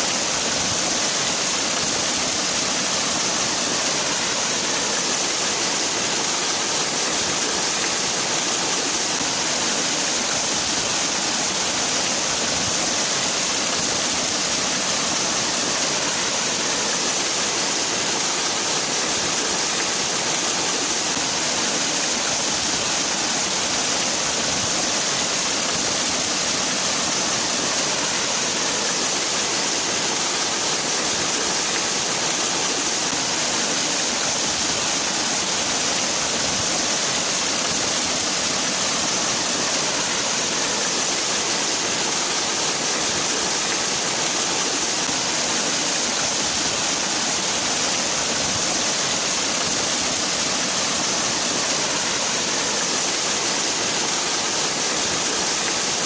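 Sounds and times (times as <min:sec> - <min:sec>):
waterfall splashing: 0:00.0 - 0:56.0.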